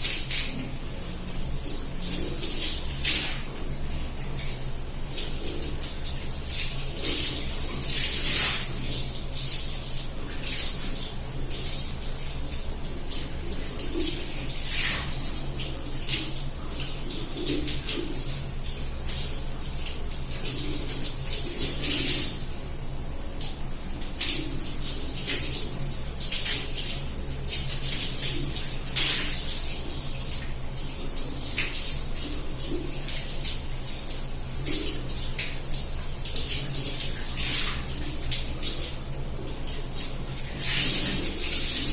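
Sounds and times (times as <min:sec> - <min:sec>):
water pouring onto hair: 0:00.0 - 0:22.7, 0:23.3 - 0:41.9.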